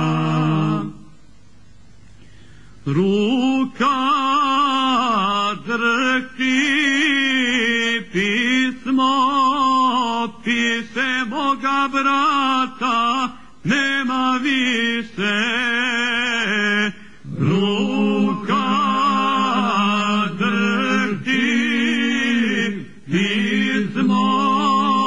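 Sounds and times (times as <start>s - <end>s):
man singing unaccompanied: 0.0s - 1.1s, 2.8s - 25.0s.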